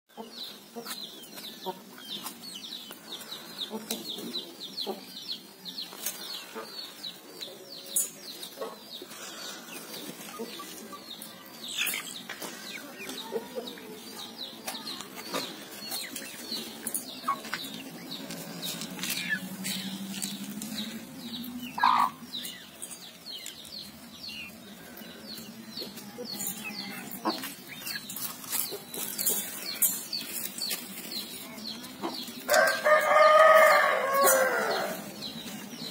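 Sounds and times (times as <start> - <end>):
chickens clucking and chirping: 0.1 - 35.9.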